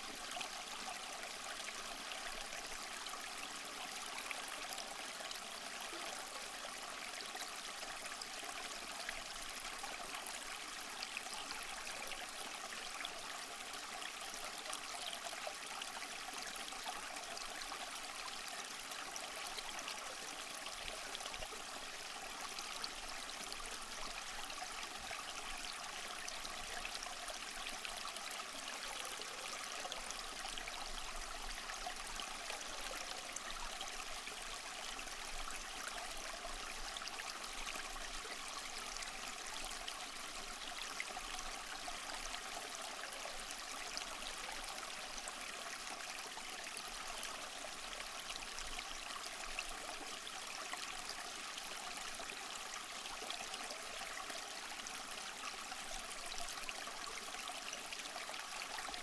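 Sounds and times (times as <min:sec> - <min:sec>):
small waterfall splashing over rocks: 0:00.0 - 0:59.0.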